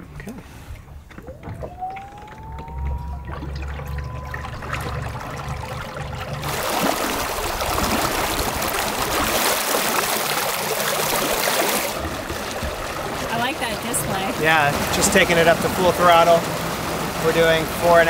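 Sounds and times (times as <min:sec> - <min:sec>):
low steady hum: 0:00.0 - 0:18.0
water rushing and churning: 0:00.0 - 0:18.0.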